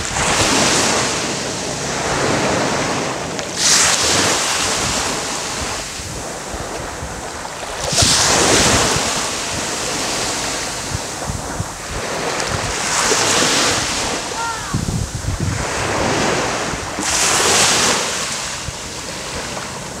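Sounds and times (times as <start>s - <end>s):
small waves breaking on beach: 0.0s - 20.0s
wind buffeting microphone: 0.0s - 20.0s.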